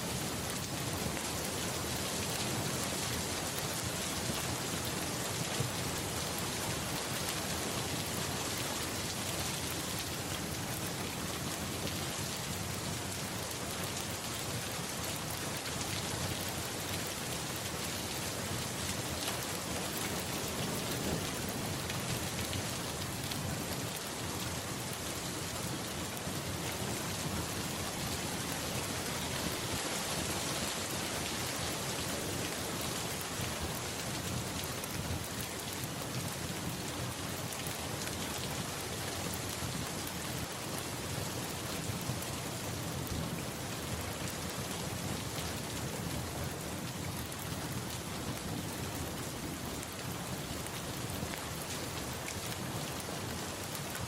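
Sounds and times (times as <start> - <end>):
dense rainfall: 0.0 - 54.0.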